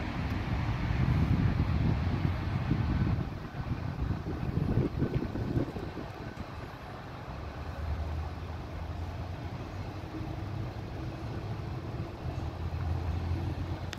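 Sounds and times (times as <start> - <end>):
vehicle engine humming: 0.0 - 13.9.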